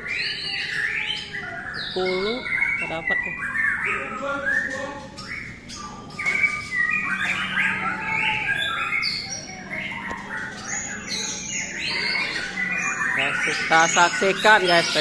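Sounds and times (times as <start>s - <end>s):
birds singing and whistling: 0.0s - 15.0s.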